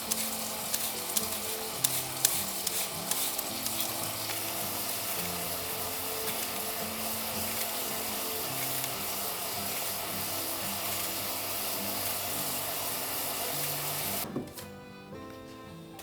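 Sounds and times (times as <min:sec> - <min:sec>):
food sizzling in a frying pan: 0:00.0 - 0:14.3
soft background music: 0:00.0 - 0:16.0.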